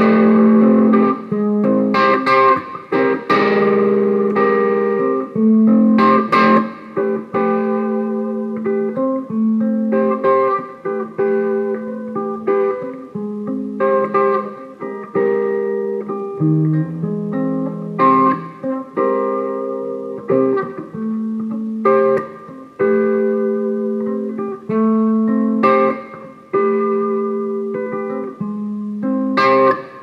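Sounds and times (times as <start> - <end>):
electric guitar notes and chords: 0.0 - 30.0.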